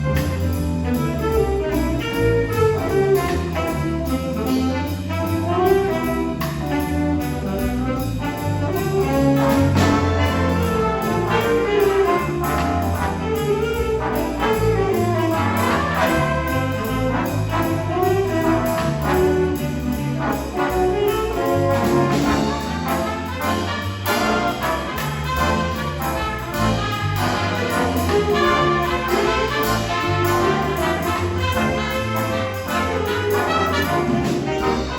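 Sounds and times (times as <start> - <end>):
jazz big band playing: 0.0 - 34.9
trumpets and trombones: 0.0 - 34.9
walking bass line: 0.0 - 34.9.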